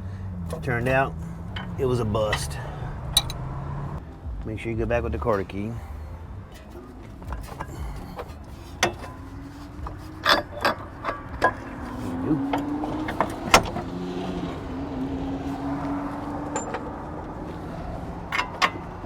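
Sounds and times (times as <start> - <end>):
metal tools clinking on car parts: 0.4 - 3.5, 6.4 - 19.0.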